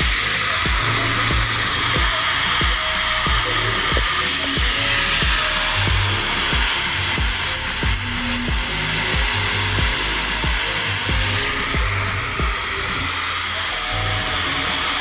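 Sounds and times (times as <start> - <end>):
music with heavy bass beat: 0.0 - 15.0
steady loud hiss: 0.0 - 15.0.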